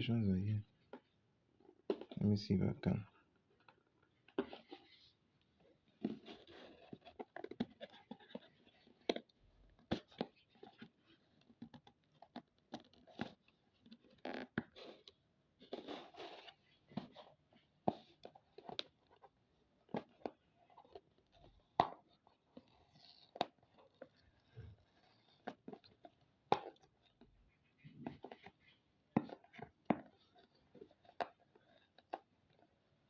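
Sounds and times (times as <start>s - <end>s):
plastic scraping and rustling: 3.5s - 33.0s.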